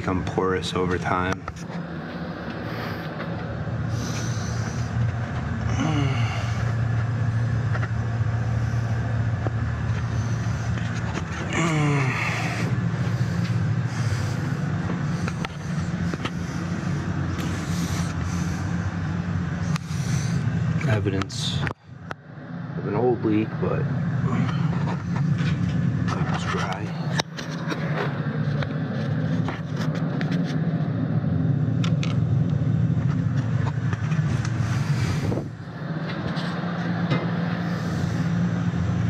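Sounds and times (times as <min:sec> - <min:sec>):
boiler burner humming: 0:00.0 - 0:39.0.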